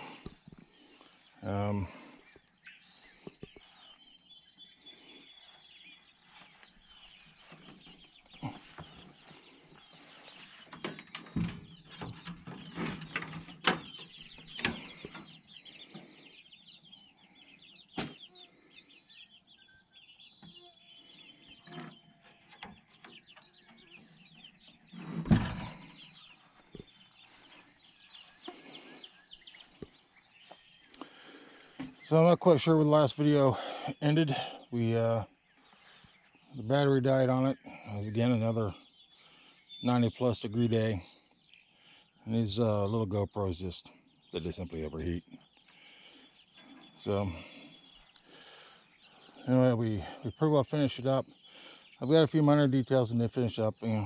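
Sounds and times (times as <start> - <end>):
birds chirping: 0.0 - 54.0
insect drone: 0.0 - 54.0.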